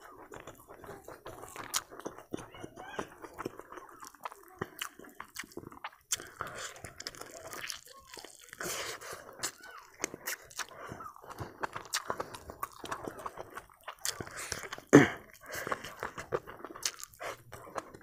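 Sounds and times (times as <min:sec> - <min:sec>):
person chewing with wet smacks: 0:00.0 - 0:18.0.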